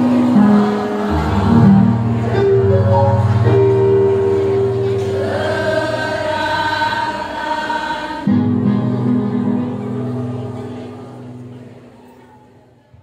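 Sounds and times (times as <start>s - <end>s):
women's choir singing: 0.0s - 13.0s.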